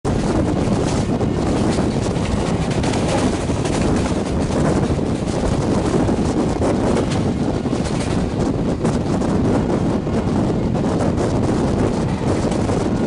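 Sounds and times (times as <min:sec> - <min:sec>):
steady loud rumble: 0:00.0 - 0:13.0
wind buffeting microphone: 0:00.0 - 0:13.0.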